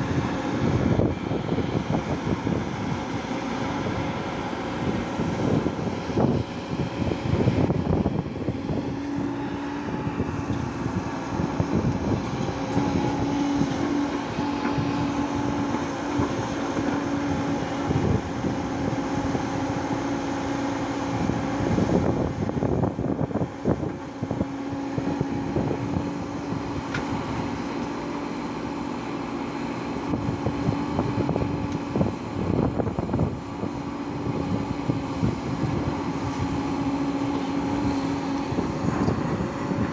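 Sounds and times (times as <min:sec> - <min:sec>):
diesel engines humming: 0:00.0 - 0:39.9.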